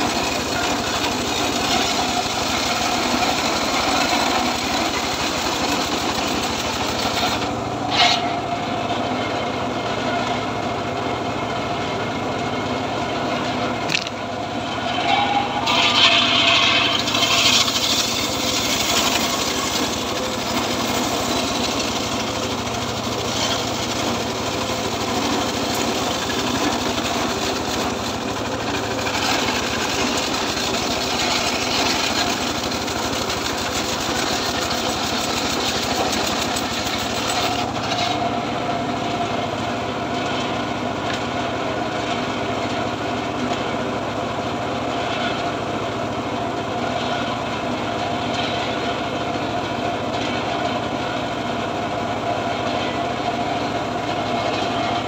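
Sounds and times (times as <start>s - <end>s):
circular saw cutting log: 0.0s - 55.0s.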